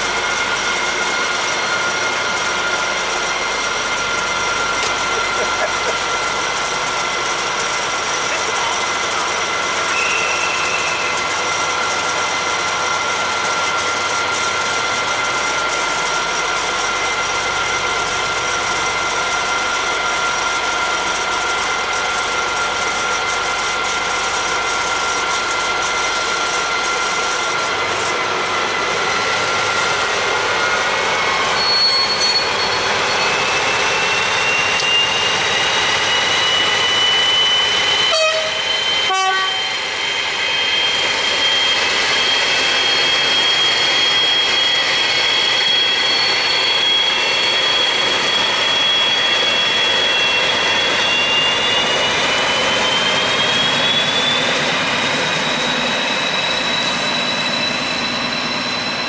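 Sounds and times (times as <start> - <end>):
diesel locomotive engine roar: 0.0 - 59.0
high whistling whine: 0.0 - 59.0.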